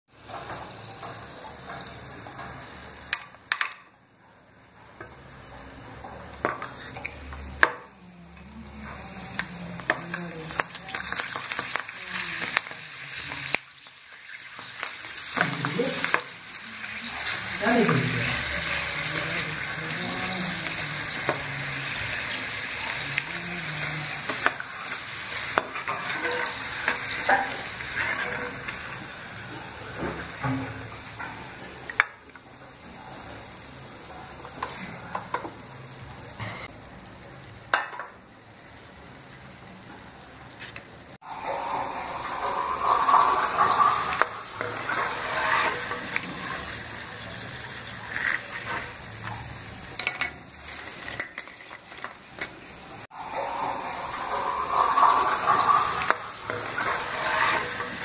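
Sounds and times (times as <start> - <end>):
food sizzling in hot oil: 0.1 - 58.0.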